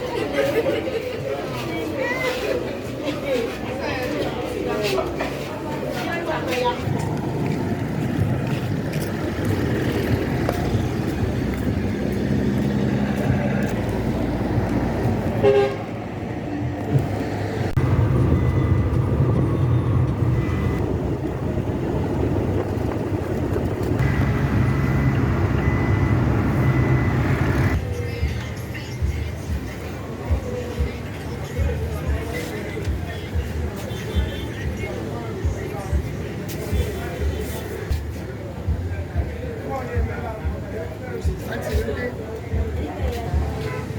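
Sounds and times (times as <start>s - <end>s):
vehicle road noise: 0.0s - 43.9s.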